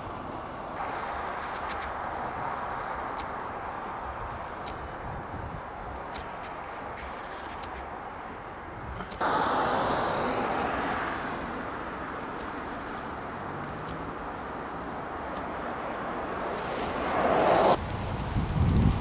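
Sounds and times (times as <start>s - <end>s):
vehicles passing on wet road: 0.0s - 19.0s.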